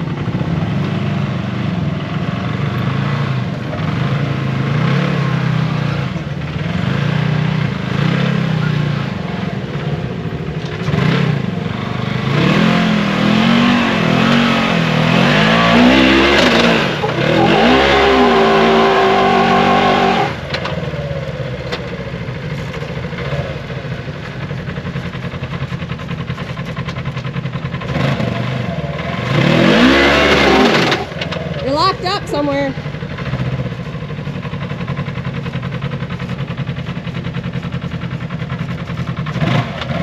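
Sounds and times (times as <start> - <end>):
off-road vehicle engine revving: 0.0 - 40.0.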